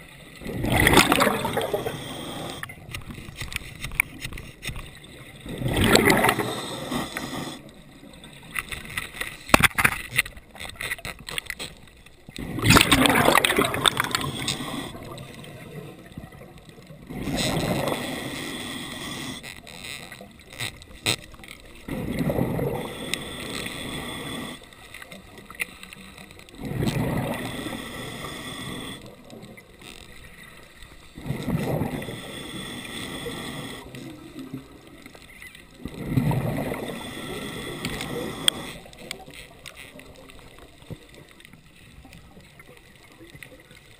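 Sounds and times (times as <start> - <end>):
underwater bubbles gurgling: 0.0 - 43.9.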